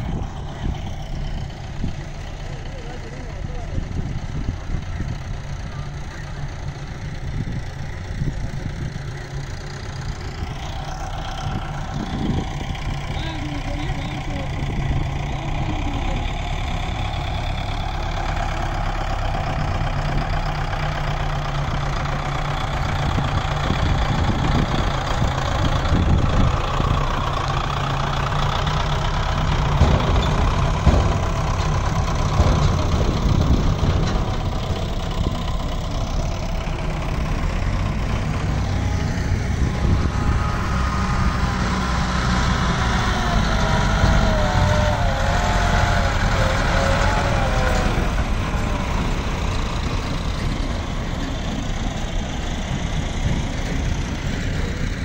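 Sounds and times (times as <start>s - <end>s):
tractor engines passing: 0.0s - 55.0s.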